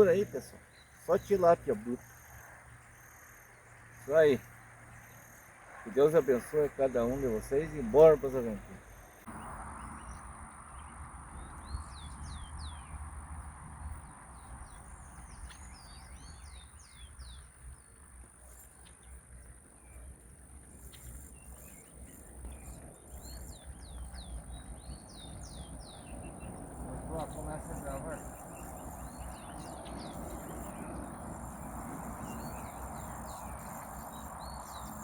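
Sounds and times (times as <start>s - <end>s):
birds chirping: 0.0s - 13.4s, 14.0s - 35.0s.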